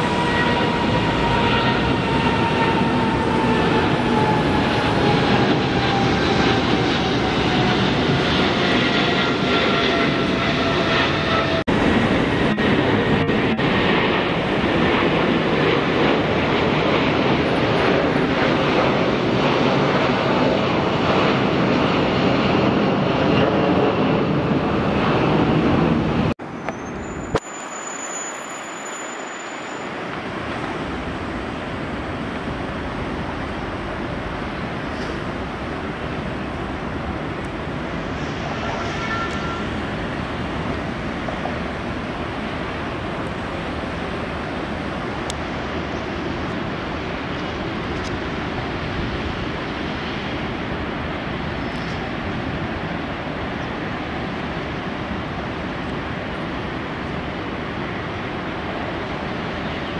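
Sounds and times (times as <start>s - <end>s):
distant jet engines rushing: 0.0s - 59.9s
jet engines roaring: 0.0s - 59.9s.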